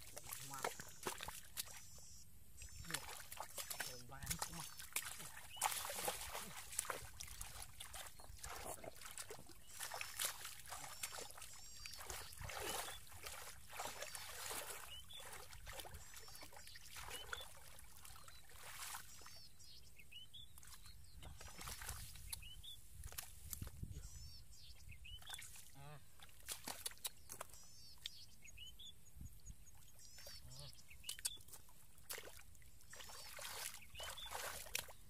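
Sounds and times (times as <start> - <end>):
hands splashing in muddy water: 0.0 - 1.9, 2.6 - 19.2, 20.6 - 23.8, 25.2 - 27.6, 31.0 - 35.0.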